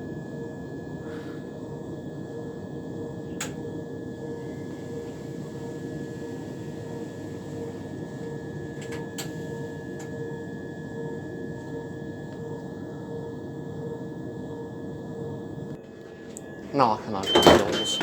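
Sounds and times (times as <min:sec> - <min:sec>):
train equipment hum: 0:00.0 - 0:18.0.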